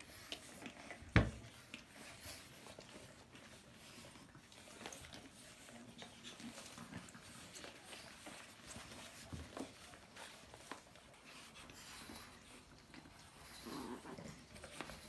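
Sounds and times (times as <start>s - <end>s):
dogs scuffling: 0.0s - 15.0s
faint dog sounds: 0.0s - 15.0s.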